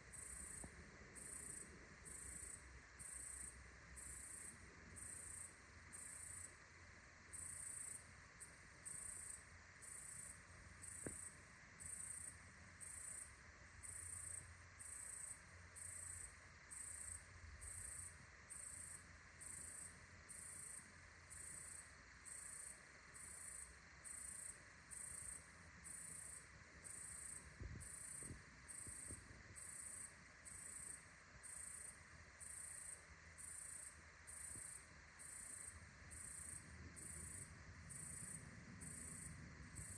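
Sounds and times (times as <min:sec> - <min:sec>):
insect calling in high pulses: 0:00.0 - 0:39.9.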